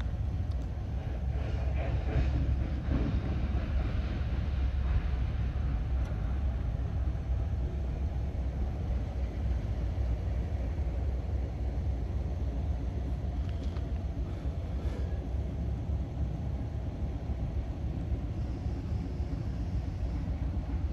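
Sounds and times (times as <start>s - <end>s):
diesel locomotives idling: 0.0s - 20.9s.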